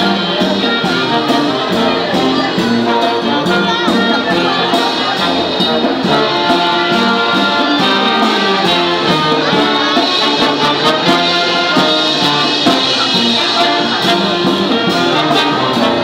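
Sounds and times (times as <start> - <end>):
brass instruments playing tune: 0.0 - 16.0
steady drum beat: 0.0 - 16.0.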